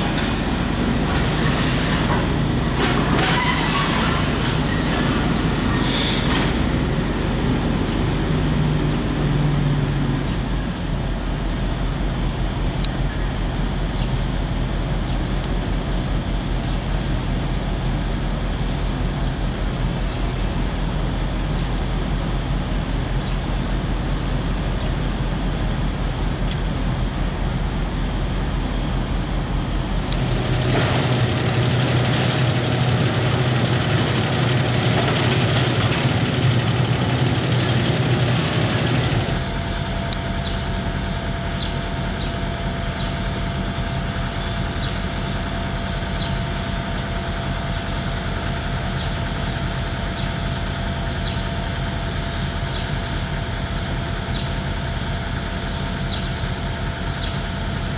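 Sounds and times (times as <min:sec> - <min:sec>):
excavator diesel engine running: 0:00.0 - 0:57.9
thin steady whine: 0:10.7 - 0:57.9.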